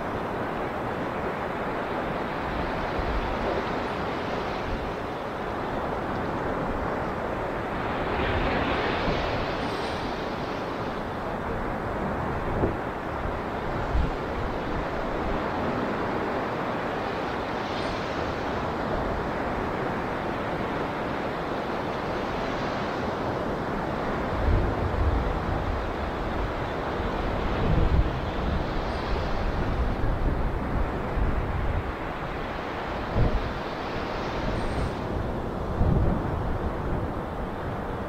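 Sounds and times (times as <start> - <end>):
ocean surf breaking: 0.0 - 38.0.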